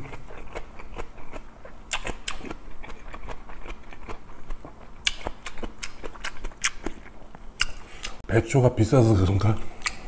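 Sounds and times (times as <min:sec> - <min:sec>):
close chewing with mouth smacks: 0:00.0 - 0:08.2.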